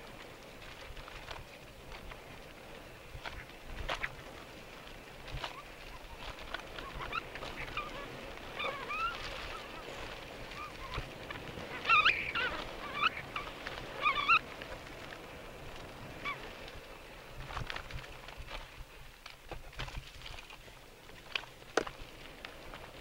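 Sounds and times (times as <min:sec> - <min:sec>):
tyres rumbling on dirt: 0:00.0 - 0:23.0.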